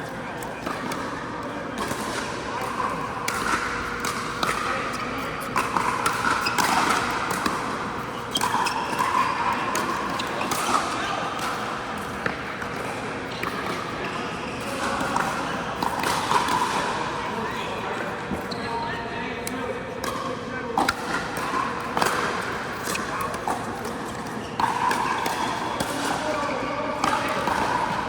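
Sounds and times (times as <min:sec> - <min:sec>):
murmur of voices in a hall: 0:00.0 - 0:28.0.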